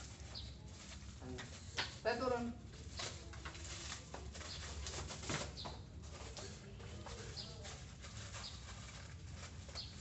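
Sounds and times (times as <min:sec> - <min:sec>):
plastic packaging crackling: 0:00.0 - 0:10.0.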